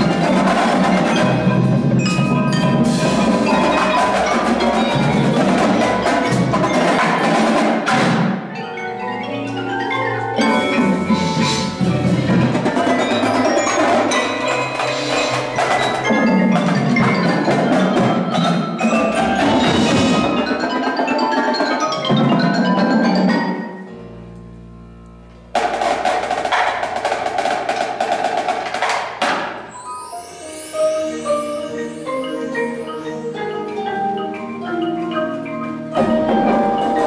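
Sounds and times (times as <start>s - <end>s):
percussion ensemble with marimbas: 0.0s - 24.4s, 25.4s - 37.0s.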